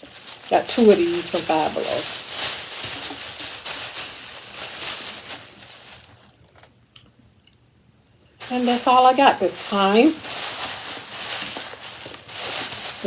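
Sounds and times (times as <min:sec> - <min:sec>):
plastic packaging crinkling: 0:00.0 - 0:06.8, 0:08.4 - 0:13.0.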